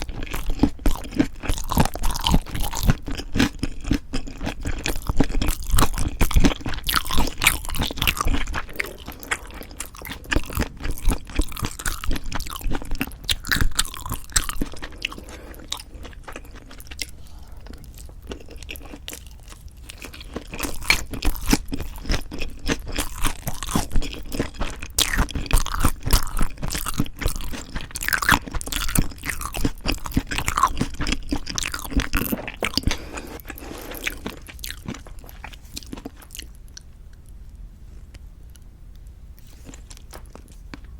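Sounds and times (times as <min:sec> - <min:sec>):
wet chewing: 0:00.0 - 0:37.3
crisp crunching of food: 0:00.0 - 0:37.4, 0:39.4 - 0:40.9.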